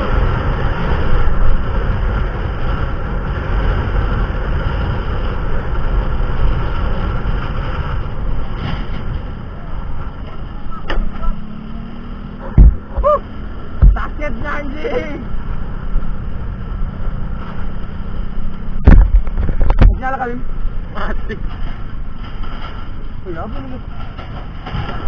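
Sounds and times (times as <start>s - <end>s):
moving vehicle rumble: 0.0s - 25.0s
wind noise: 0.0s - 25.0s.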